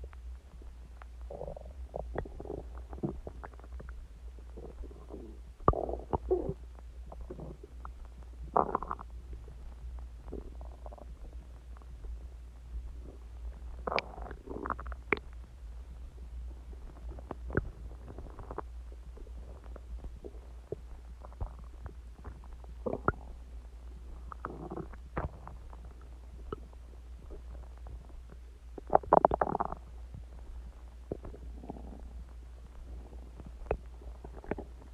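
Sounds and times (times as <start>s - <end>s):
low steady hum: 0.0s - 34.9s
stomach gurgling and squeaking: 0.1s - 12.3s, 12.9s - 34.9s.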